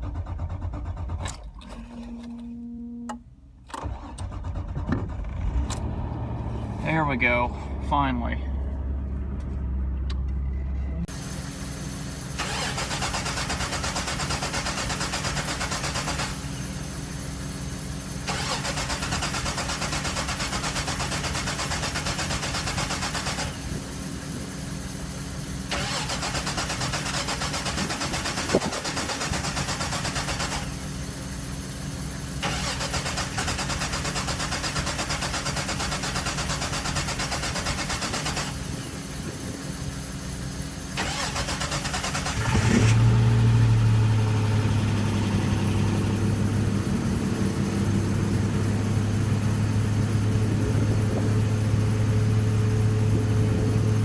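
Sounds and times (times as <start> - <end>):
car engine idling: 3.3 - 54.0.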